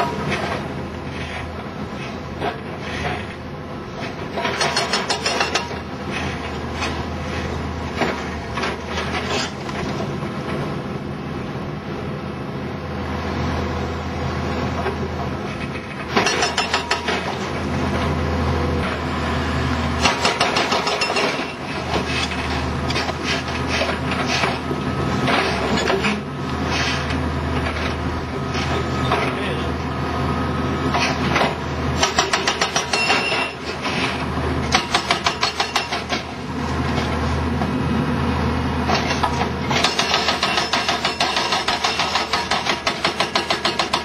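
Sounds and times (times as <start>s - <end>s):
excavator engine running: 0.0s - 44.0s.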